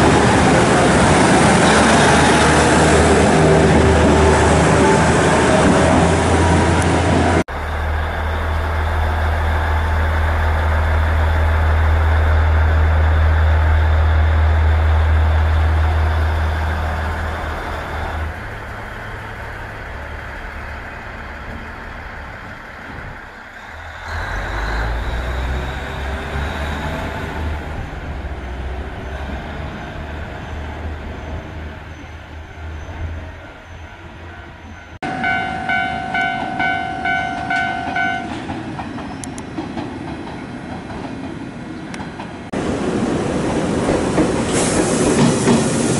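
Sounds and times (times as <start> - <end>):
diesel railcar engine drone: 0.0 - 45.9.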